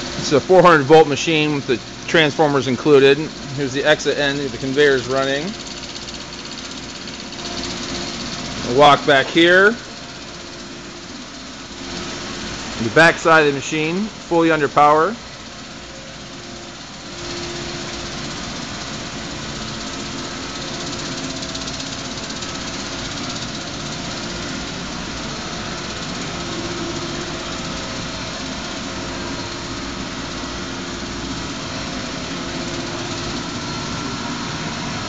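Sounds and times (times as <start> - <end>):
machine hum and whir: 0.0 - 35.0.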